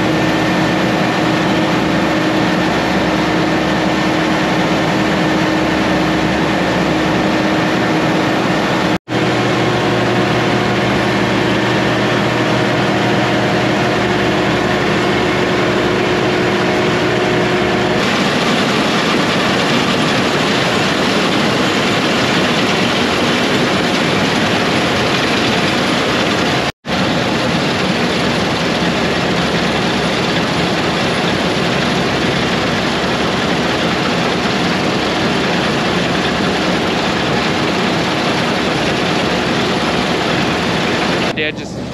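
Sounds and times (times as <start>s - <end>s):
diesel machinery engine hum: 0.0s - 41.9s
even rushing noise: 0.0s - 41.9s.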